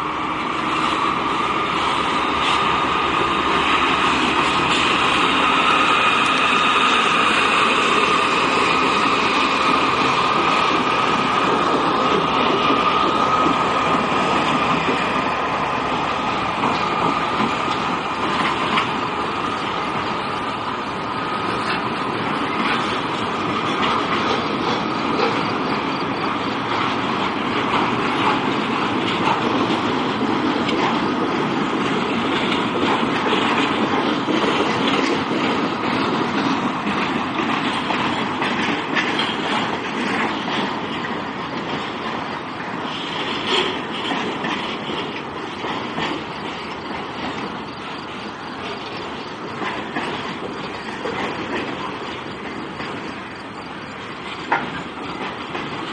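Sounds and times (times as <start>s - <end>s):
freight train rumbling past: 0.0s - 55.9s
wheels clicking over rail joints: 0.0s - 55.9s.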